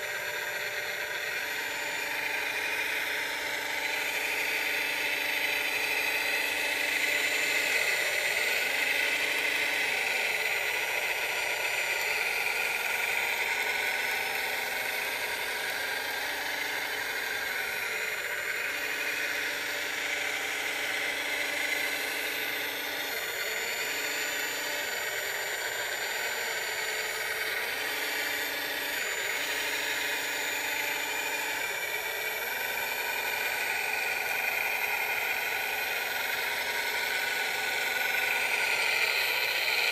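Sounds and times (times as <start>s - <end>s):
electric motor whir: 0.0s - 39.9s.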